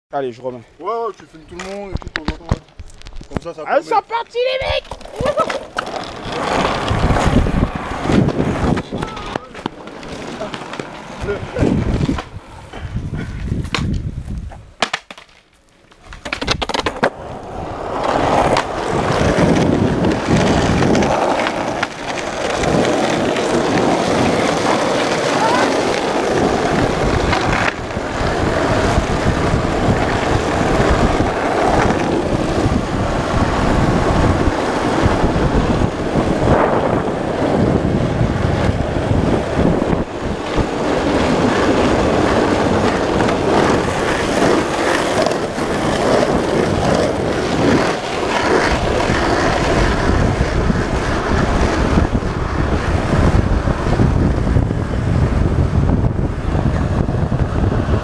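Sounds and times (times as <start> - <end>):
skateboard wheels rolling on asphalt: 0.4 - 58.0
wind buffeting microphone: 4.6 - 14.8, 16.1 - 58.0.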